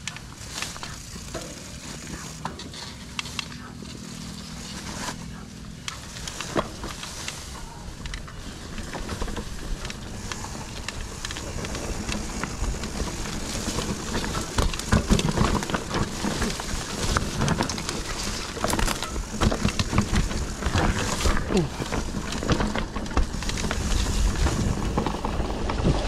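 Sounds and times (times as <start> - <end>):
bike rattling and knocking: 0.0 - 26.0
wind rumble on microphone: 0.4 - 26.0.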